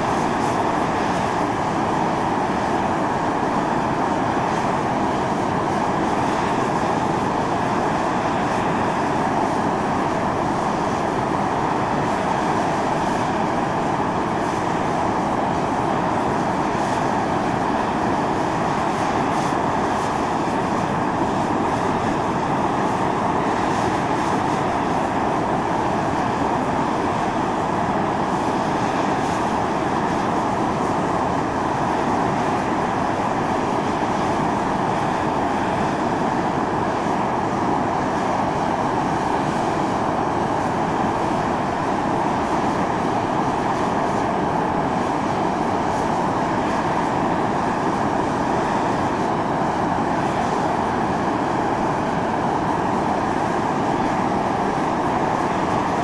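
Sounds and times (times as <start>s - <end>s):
fumarole venting steam hiss: 0.0s - 56.0s.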